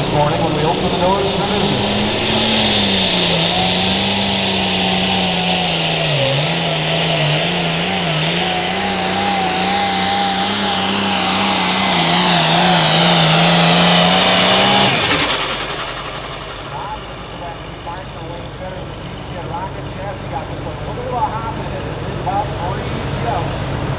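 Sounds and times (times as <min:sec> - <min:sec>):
diesel tractor engine under load: 0:00.0 - 0:23.9
high turbo whine: 0:00.0 - 0:23.9.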